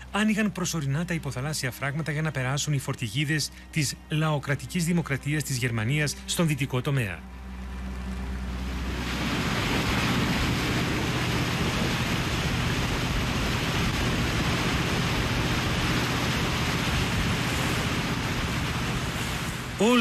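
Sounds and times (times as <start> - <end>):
motorboat engine hum: 0.0 - 20.0
wake rushing water: 0.0 - 20.0.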